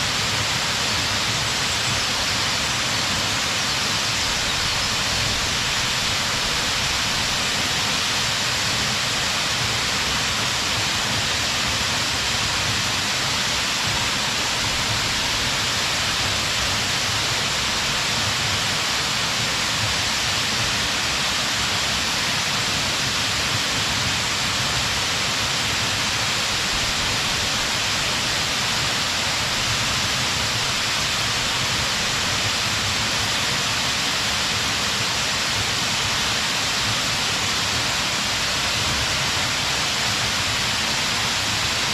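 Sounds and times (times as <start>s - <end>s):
waterfall crashing into pool: 0.0s - 41.9s.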